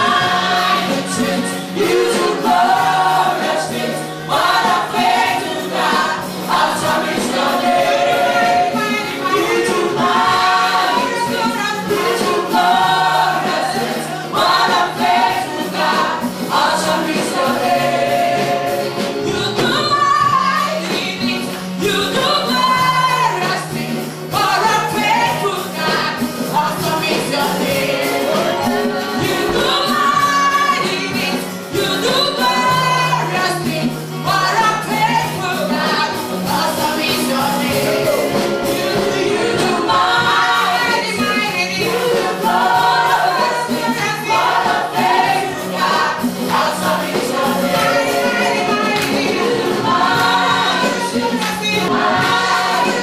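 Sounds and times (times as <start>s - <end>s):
group singing gospel song: 0.0s - 53.0s
instrumental accompaniment: 0.0s - 53.0s.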